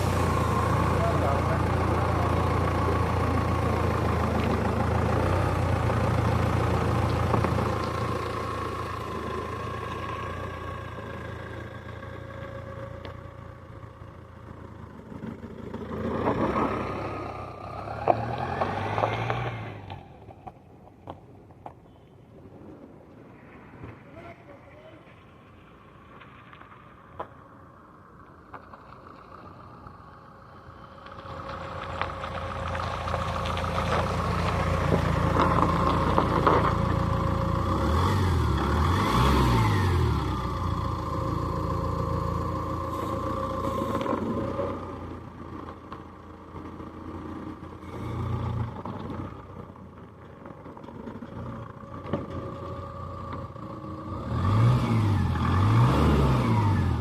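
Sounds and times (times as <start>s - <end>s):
diesel engine revving: 0.0s - 20.2s, 29.7s - 49.8s, 50.7s - 57.0s.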